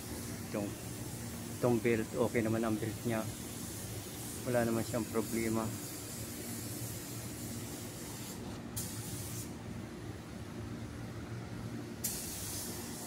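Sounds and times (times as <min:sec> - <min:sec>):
steady hiss: 0:00.0 - 0:09.6, 0:12.0 - 0:13.0.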